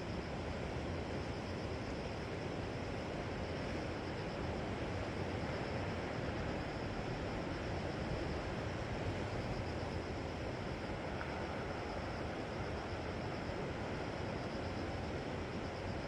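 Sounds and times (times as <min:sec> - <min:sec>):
wind: 0:00.0 - 0:16.0
sea surf on the shore: 0:02.6 - 0:16.0.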